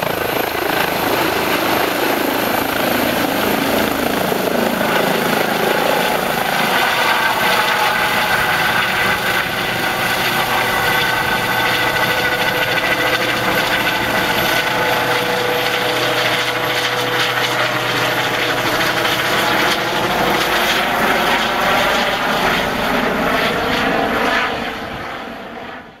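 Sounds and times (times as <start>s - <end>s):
helicopter rotor and turbine: 0.0s - 26.0s.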